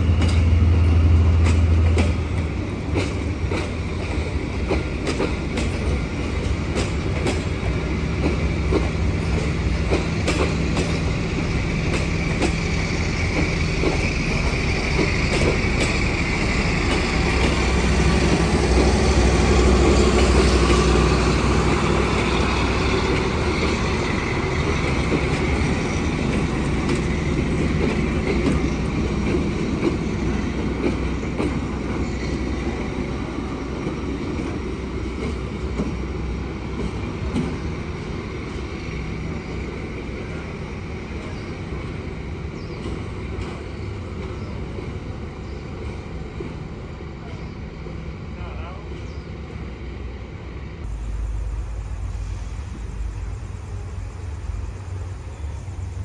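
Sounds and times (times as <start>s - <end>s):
diesel train passing: 0.0s - 56.0s.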